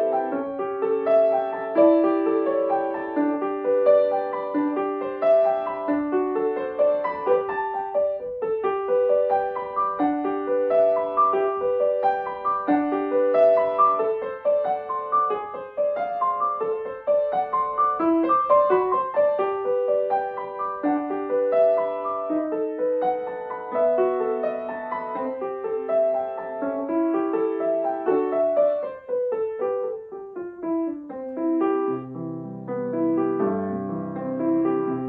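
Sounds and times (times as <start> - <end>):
grand piano broken chords: 0.0 - 35.0.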